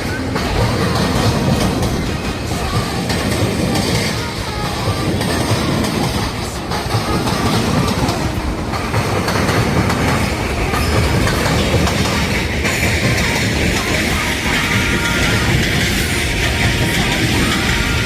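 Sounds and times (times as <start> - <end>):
hissing rail noise: 0.0 - 18.0
train wheels clattering over rail joints: 0.0 - 18.0.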